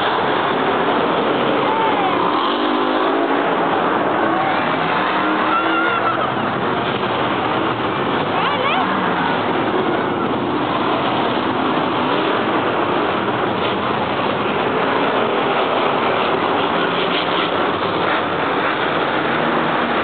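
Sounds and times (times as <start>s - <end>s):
monster truck engines running: 0.0s - 20.0s.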